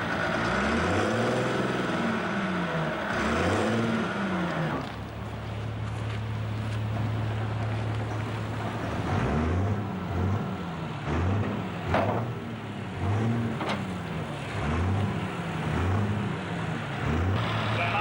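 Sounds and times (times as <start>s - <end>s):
tractor diesel engine revving: 0.0s - 18.0s.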